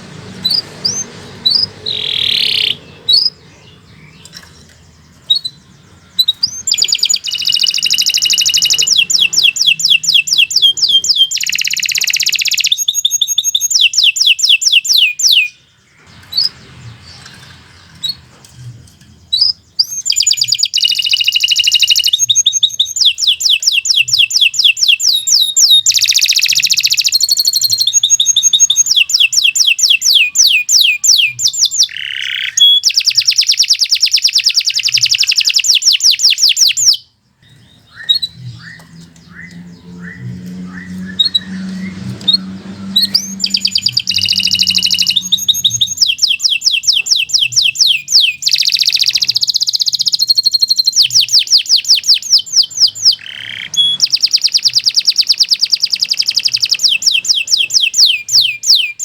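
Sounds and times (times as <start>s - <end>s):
canary trilling: 0.0s - 18.4s, 19.2s - 59.0s
canary chirps: 0.0s - 59.0s.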